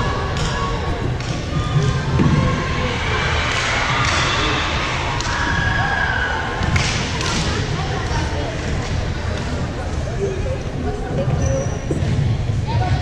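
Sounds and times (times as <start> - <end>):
voices echoing in a gymnasium: 0.0 - 13.0.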